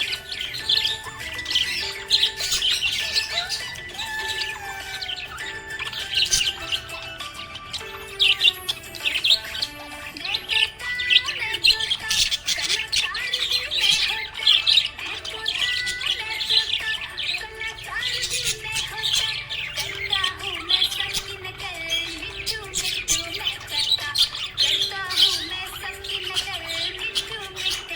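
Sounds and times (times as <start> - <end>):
budgerigars chirping: 0.0 - 27.9.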